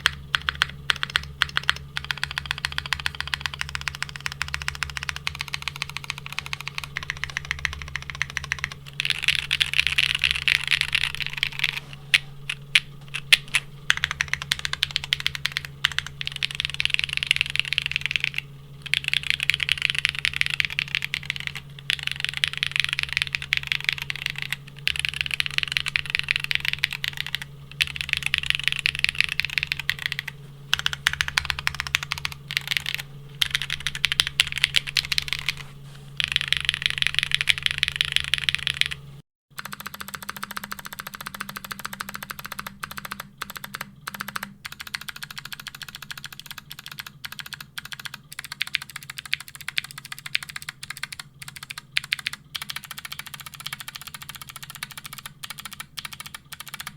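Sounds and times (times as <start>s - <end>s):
typing on mechanical keyboard: 0.0s - 39.0s, 39.6s - 56.9s.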